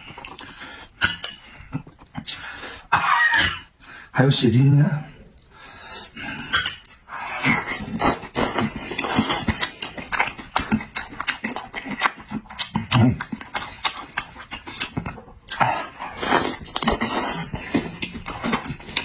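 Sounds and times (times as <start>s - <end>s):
chewing and lip-smacking: 0.0s - 2.5s, 5.3s - 19.0s.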